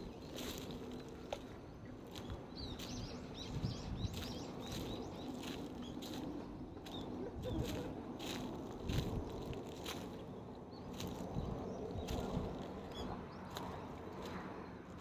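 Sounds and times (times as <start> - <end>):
songbird chirping: 0.0 - 15.0
footsteps walking: 0.2 - 10.3, 10.9 - 15.0.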